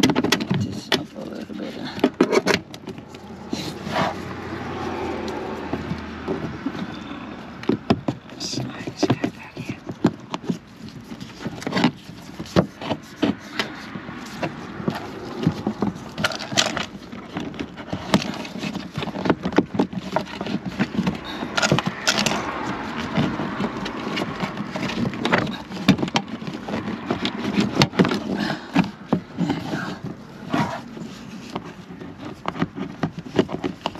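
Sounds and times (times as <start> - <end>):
wiring harness handling noise: 0.0 - 33.9.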